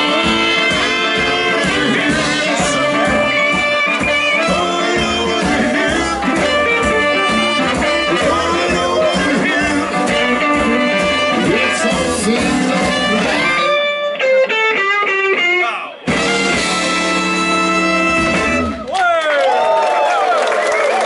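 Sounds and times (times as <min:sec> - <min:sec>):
horns: 0:00.0 - 0:14.1, 0:15.9 - 0:18.9
blues band playing live: 0:00.0 - 0:18.8
electric guitar: 0:00.0 - 0:18.9.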